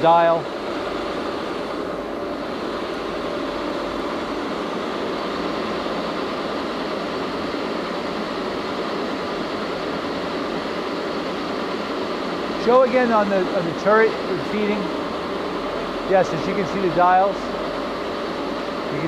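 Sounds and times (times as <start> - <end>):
lathe motor whirring: 0.0 - 19.0.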